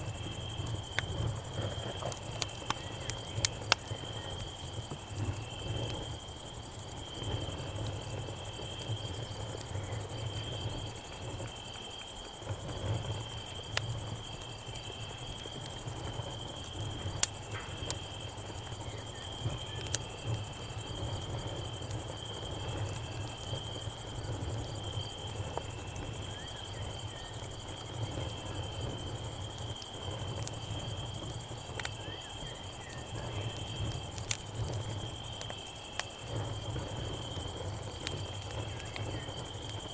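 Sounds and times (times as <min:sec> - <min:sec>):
campfire crackling: 0:00.0 - 0:39.9
cicada drone: 0:00.0 - 0:39.9
crickets chirping: 0:00.0 - 0:39.9.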